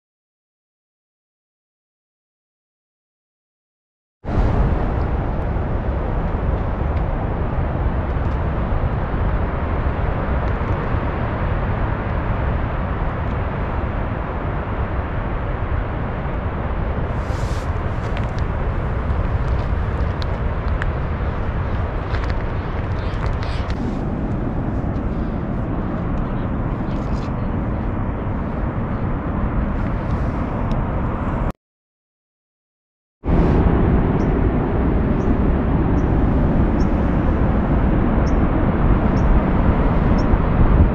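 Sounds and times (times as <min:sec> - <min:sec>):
wind buffeting microphone: 0:04.3 - 0:31.5, 0:33.3 - 0:40.9.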